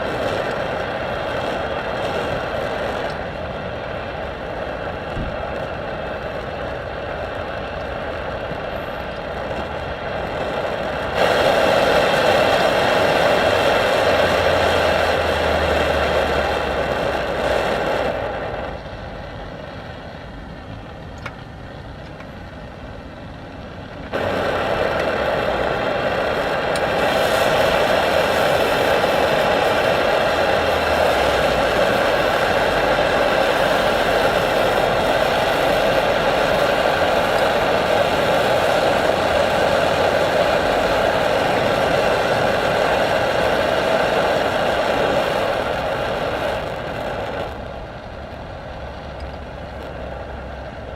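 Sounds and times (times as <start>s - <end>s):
stove burner flame rushing: 0.0s - 50.9s.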